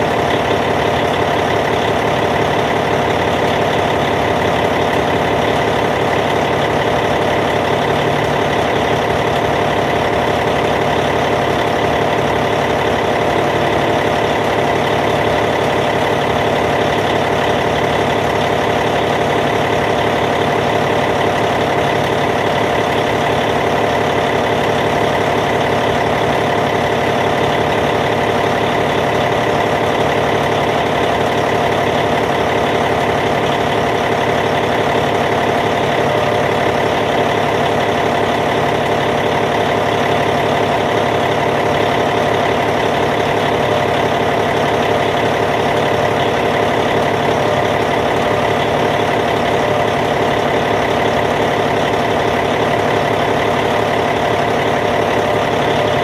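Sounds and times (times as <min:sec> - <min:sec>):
bulldozer diesel engine idling: 0:00.0 - 0:56.0.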